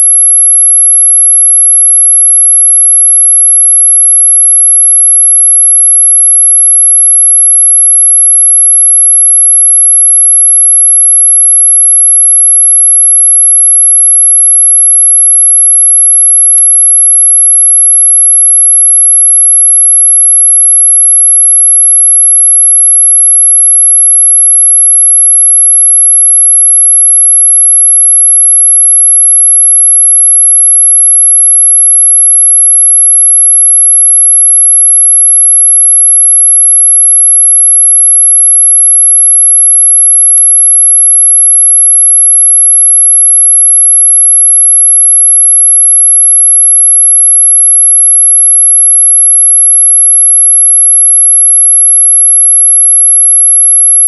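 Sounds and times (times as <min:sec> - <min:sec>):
high-pitched sine tone: 0:00.0 - 0:54.0.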